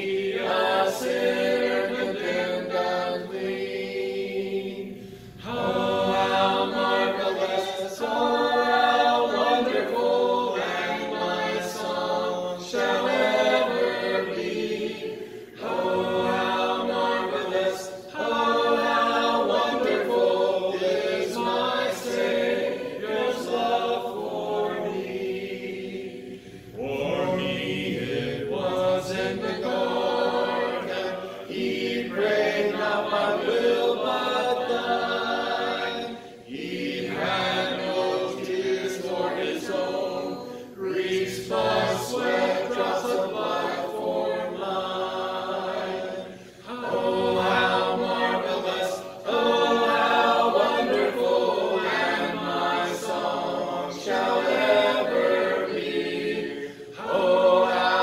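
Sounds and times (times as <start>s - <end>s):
voices singing a hymn: 0.0s - 58.0s.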